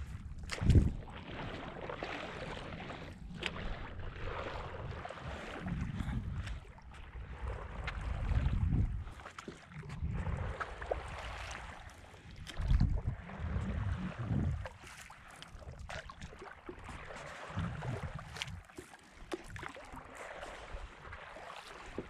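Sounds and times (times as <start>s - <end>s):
water lapping against paddleboard: 0.0s - 22.0s.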